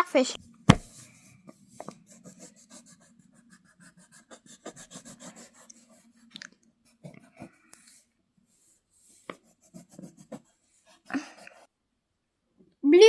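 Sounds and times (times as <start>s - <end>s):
pencil scratching on paper: 0.0s - 6.3s, 6.9s - 11.7s.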